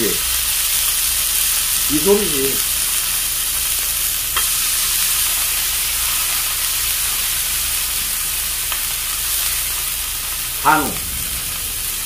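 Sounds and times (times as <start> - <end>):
beef sizzling on a grill: 0.0 - 12.0.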